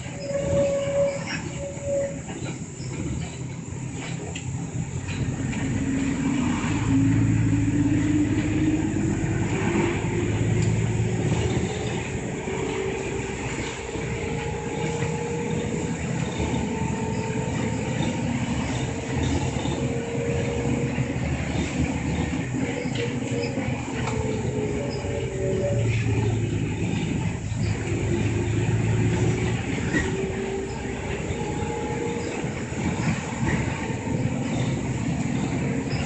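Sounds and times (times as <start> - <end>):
bus engine rumbling: 0.0 - 36.0.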